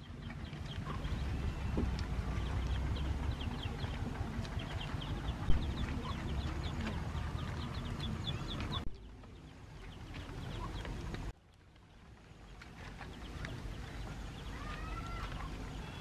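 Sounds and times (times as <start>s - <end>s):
chickens clucking: 0.0s - 11.3s, 12.5s - 16.0s
low background rumble: 0.0s - 16.0s.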